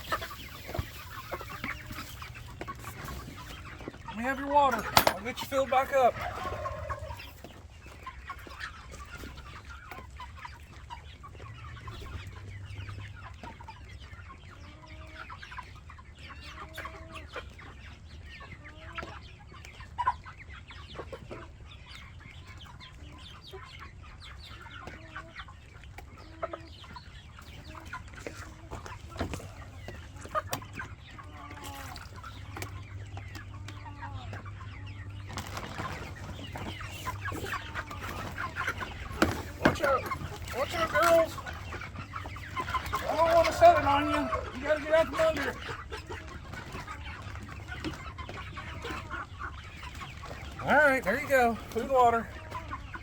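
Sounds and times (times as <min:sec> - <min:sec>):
chickens clucking: 0:00.0 - 0:53.0.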